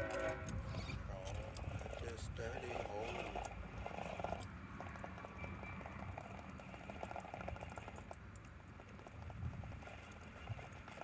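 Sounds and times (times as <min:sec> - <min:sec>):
tyres scrabbling on rock: 0:00.0 - 0:11.0.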